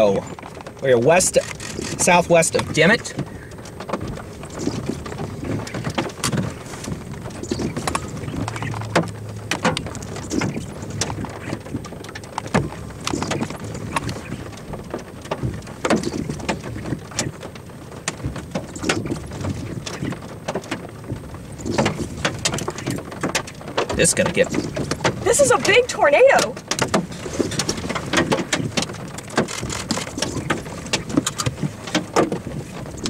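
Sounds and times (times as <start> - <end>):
wind rumble: 0.0 - 33.0.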